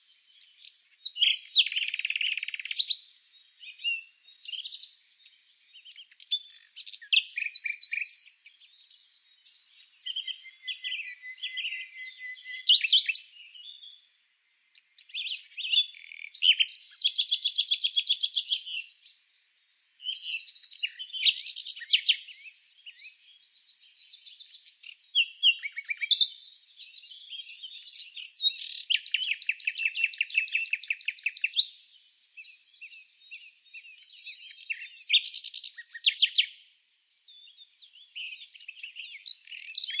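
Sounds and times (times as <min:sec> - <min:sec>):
songbirds chirping and singing: 0:00.0 - 0:40.0.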